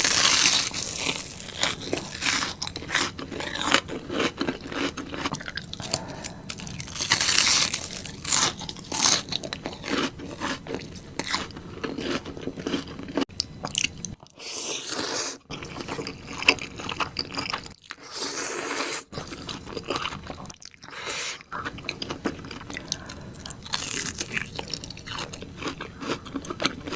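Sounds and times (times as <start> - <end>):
person chewing crunchy food: 0.0 - 26.9.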